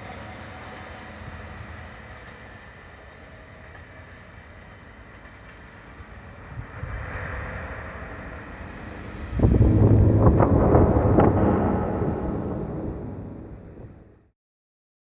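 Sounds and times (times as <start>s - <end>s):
freight train rumbling: 0.0s - 14.2s.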